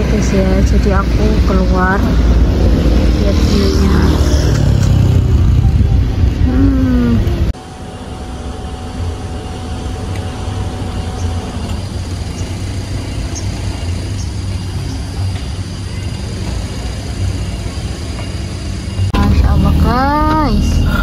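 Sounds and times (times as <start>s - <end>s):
road vehicle engine and tyres: 0.0s - 21.0s.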